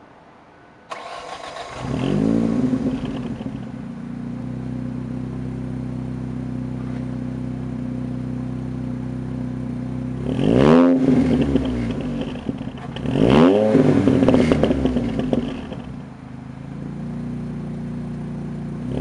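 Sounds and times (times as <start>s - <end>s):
car engine starting and idling: 0.8s - 19.0s.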